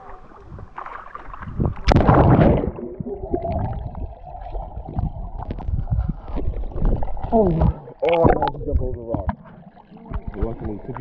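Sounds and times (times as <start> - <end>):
underwater rushing and gurgling: 0.0 - 11.0.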